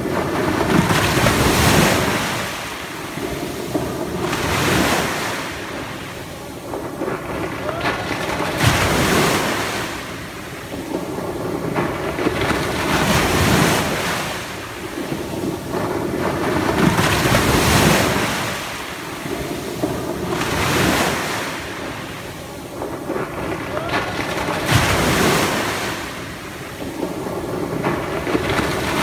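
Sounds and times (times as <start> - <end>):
waves washing up pebble beach: 0.0 - 29.0.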